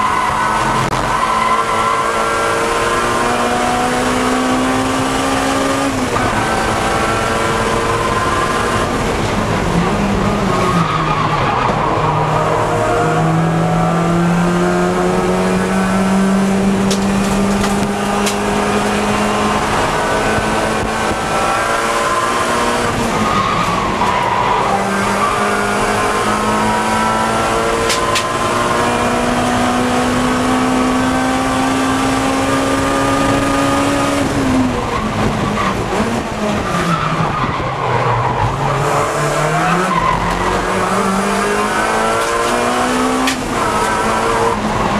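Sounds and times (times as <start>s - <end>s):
race car engine at speed: 0.0s - 44.9s.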